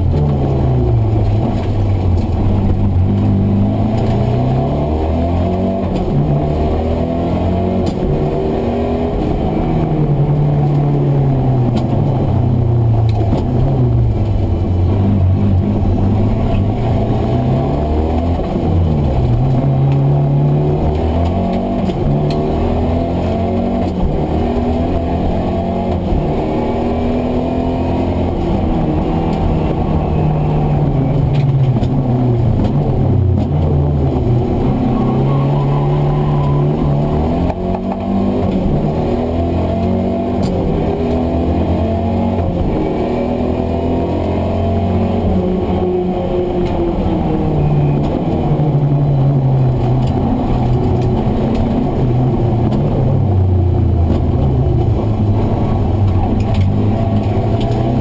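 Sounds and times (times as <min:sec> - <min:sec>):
turbocharged car engine revving: 0:00.0 - 0:58.0.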